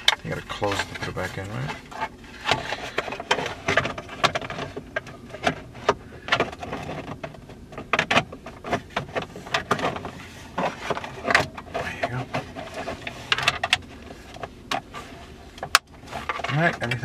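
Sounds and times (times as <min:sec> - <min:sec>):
plastic car trim clicking and scraping: 0:00.0 - 0:17.0.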